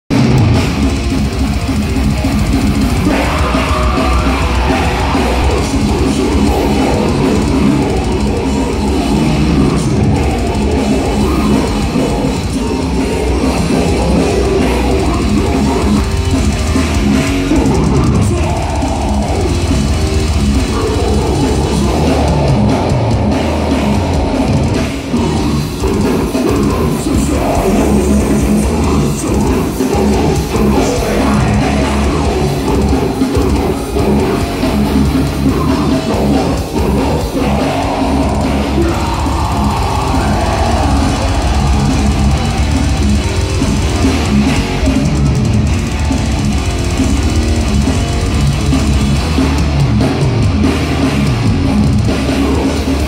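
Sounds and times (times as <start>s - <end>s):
bass guitar: 0.0s - 53.0s
distorted electric guitar: 0.0s - 53.0s
drum kit: 0.1s - 53.0s.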